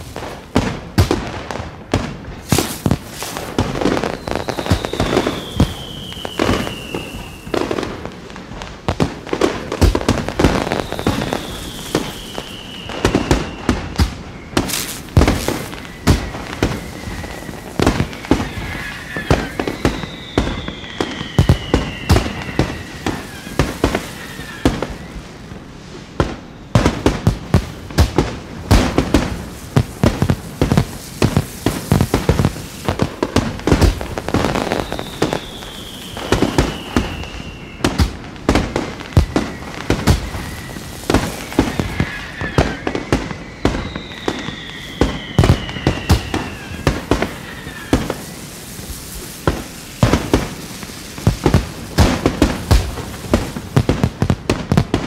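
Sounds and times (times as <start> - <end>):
falling firework whistles: 0.0 - 55.0
fireworks bangs and crackling: 0.0 - 55.0.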